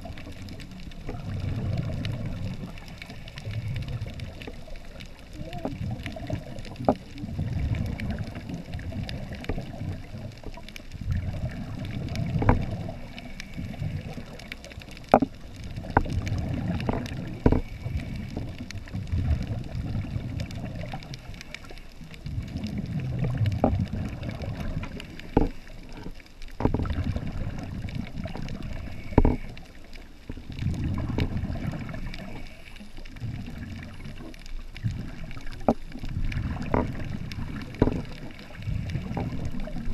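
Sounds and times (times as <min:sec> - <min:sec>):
underwater exhaust bubbles rumbling: 0:00.0 - 0:39.9.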